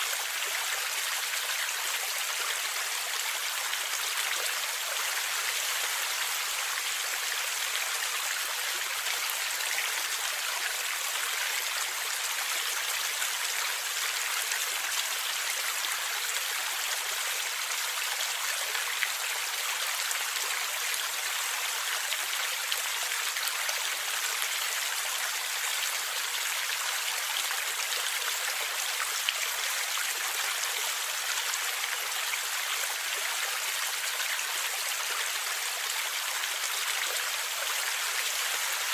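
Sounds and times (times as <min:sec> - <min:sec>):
stream water flowing and gurgling: 0:00.0 - 0:38.9.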